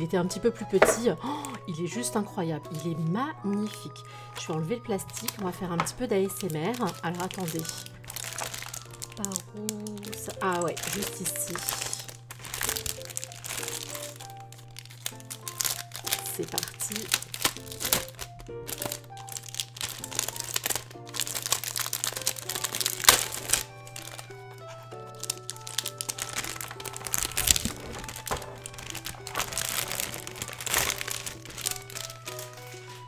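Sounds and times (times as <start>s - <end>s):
background music: 0.0s - 33.0s
plastic film crinkling: 0.8s - 1.6s, 3.5s - 33.0s.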